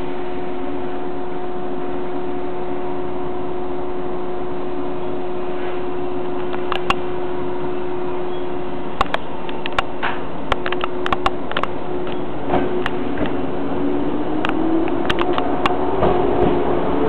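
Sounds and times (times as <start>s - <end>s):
electric train humming: 0.0s - 17.0s
train motor whine rising: 0.0s - 17.0s.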